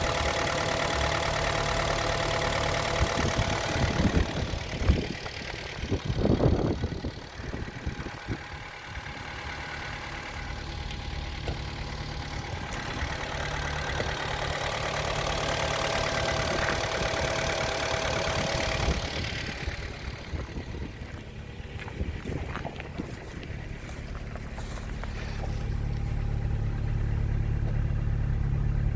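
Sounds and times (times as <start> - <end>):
car engine idling: 0.0 - 28.9
engine whine: 0.0 - 28.9.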